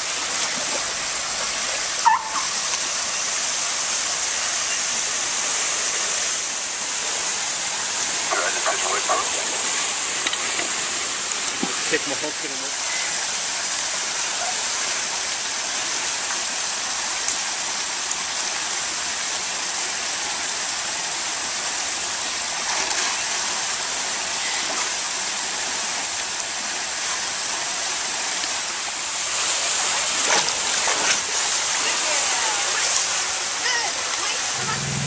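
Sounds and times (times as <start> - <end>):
running water hiss: 0.0 - 35.0.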